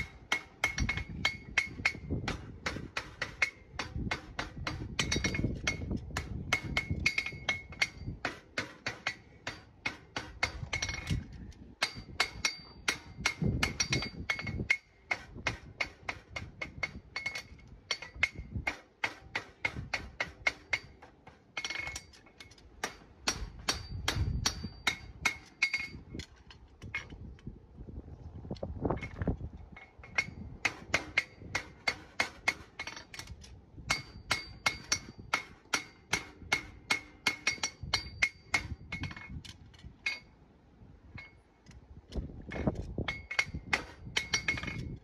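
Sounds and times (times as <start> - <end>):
hammer striking horseshoe on anvil: 0.0 - 11.2, 11.8 - 26.0, 29.8 - 33.3, 33.9 - 39.3, 42.5 - 45.0.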